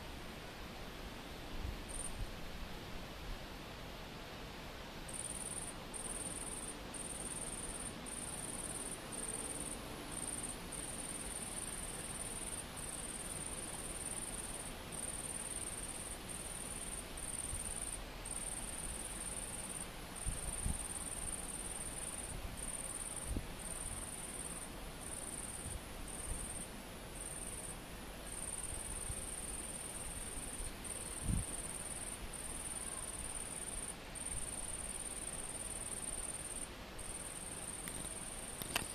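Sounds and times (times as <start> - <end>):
insect stridulating buzz: 0.0 - 2.3, 5.0 - 38.9.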